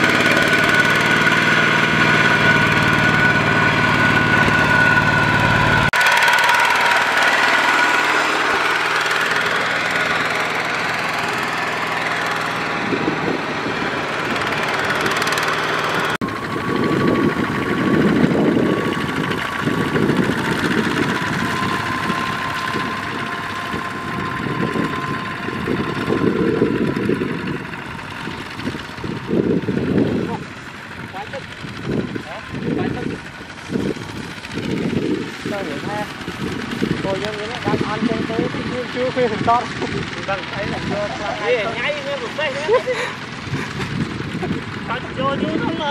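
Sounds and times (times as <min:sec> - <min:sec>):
diesel tractor engines clattering: 0:00.0 - 0:45.9.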